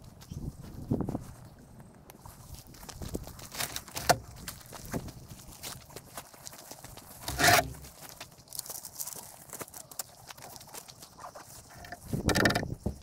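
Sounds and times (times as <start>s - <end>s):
footsteps crunching on gravel: 0.0s - 12.2s.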